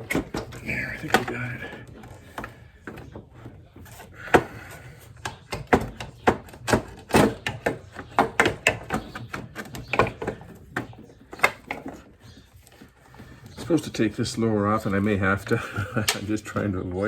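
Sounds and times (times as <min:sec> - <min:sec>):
tools clicking and knocking: 0:00.0 - 0:13.9, 0:15.9 - 0:16.7.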